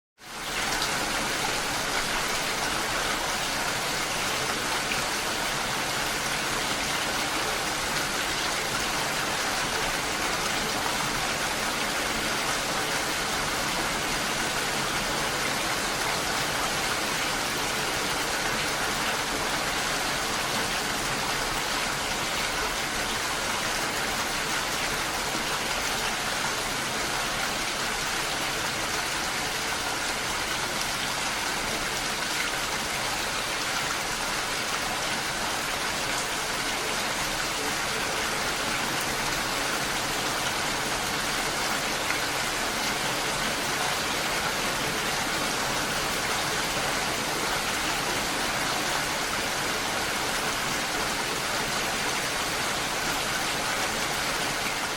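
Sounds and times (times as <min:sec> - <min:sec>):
steady rain falling: 0:00.2 - 0:54.9.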